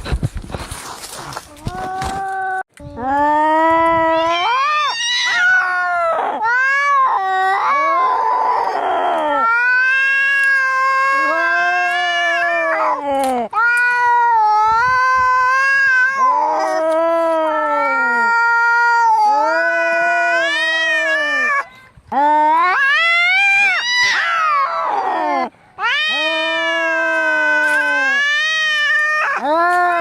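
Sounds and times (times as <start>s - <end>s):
cats yowling: 4.0s - 21.7s, 22.5s - 30.0s.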